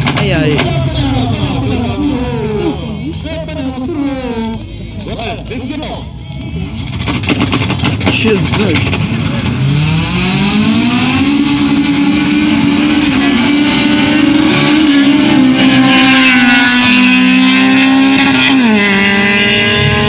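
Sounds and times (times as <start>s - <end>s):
car engine revving high: 0.0s - 20.0s
lower engine note: 0.0s - 20.0s.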